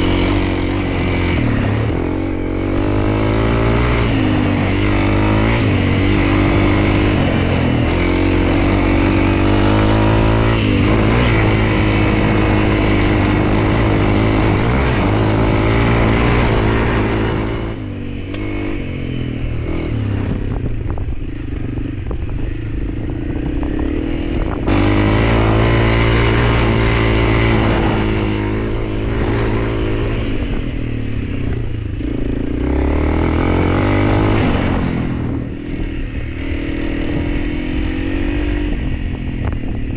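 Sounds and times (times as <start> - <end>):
motorcycle engine running under load: 0.0 - 39.9.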